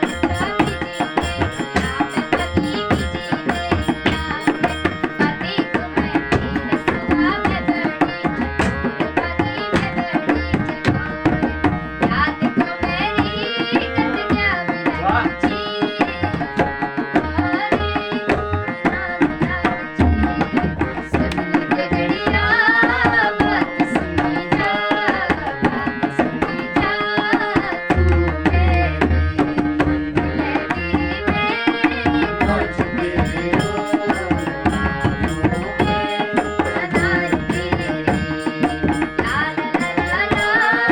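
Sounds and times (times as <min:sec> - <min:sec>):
fast hand drum rhythm: 0:00.0 - 0:40.9.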